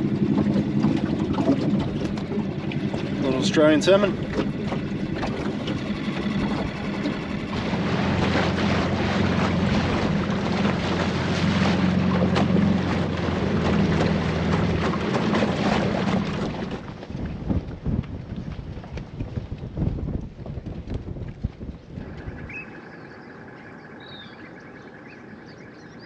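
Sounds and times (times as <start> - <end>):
wind on microphone: 0.0 - 24.4
outboard motor running: 0.0 - 26.0.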